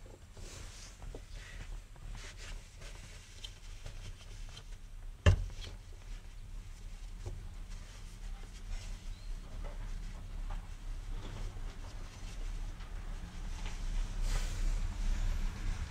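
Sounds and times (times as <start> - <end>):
faint handling noises: 0.0 - 15.8.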